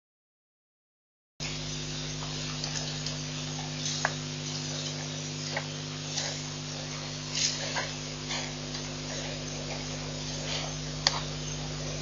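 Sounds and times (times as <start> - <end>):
chirps: 1.4 - 12.0
electrical hum and hiss: 1.4 - 12.0.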